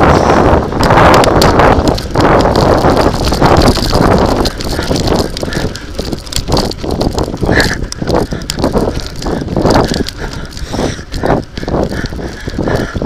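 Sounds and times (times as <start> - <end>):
wind on microphone: 0.0 - 13.0
tyres crunching over gravel: 0.7 - 13.0.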